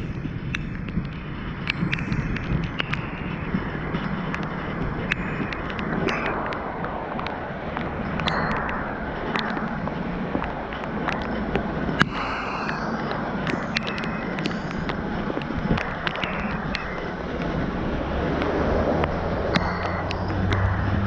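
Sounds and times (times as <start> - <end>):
heavy rain pouring: 0.0 - 21.0
raindrops tapping near microphone: 0.0 - 21.0.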